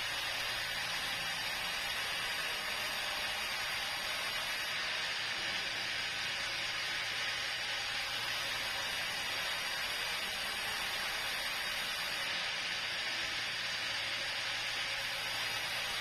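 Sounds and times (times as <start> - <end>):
sawmill saw hissing: 0.0 - 16.0.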